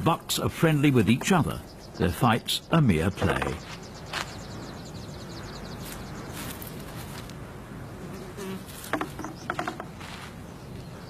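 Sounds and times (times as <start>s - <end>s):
insects buzzing and chirping: 0.0s - 11.0s.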